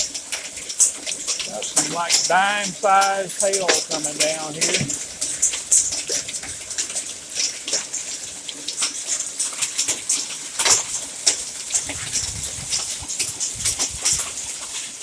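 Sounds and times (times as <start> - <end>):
hail hitting canopy and cars: 0.0 - 15.0
hiss of falling rain: 0.0 - 15.0.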